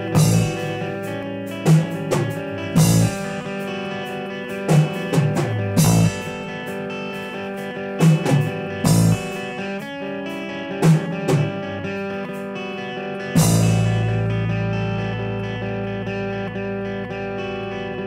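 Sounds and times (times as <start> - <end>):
drum kit: 0.0 - 15.7
electric guitar chords: 0.0 - 18.0.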